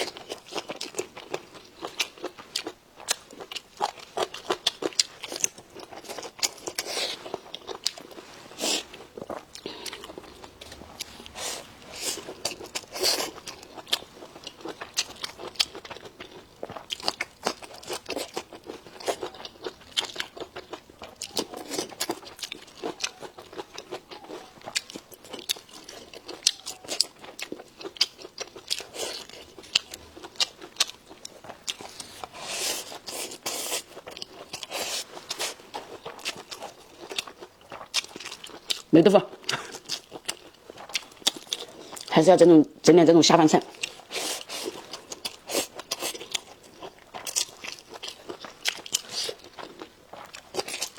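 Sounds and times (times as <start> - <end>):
person chewing crunchy food: 0.0 - 42.1, 43.6 - 50.9.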